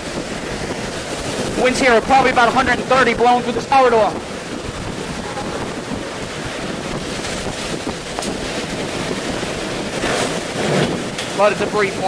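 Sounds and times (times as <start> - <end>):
hurricane wind rushing: 0.0 - 12.0.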